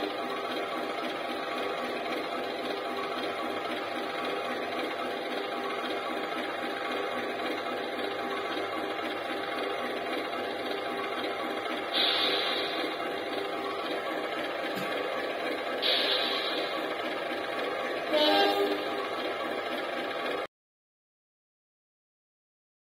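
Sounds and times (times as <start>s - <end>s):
model locomotive whirring: 0.0s - 20.5s.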